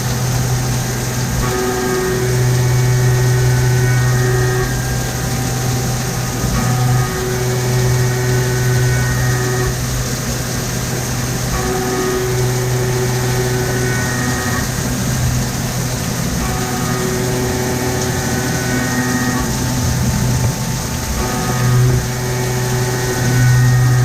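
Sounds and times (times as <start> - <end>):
milling machine cutting metal: 0.0 - 24.0.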